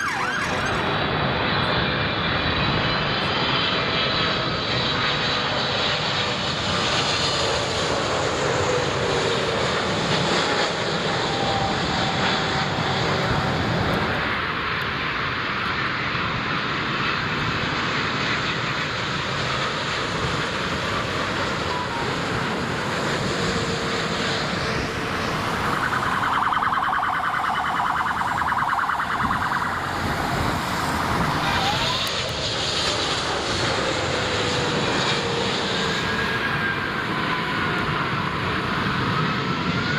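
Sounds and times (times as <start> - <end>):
jet airliner engine whine: 0.0 - 39.9.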